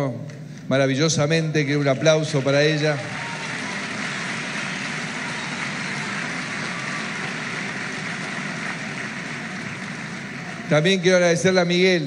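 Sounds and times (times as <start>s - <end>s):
crowd applauding: 1.8s - 11.7s.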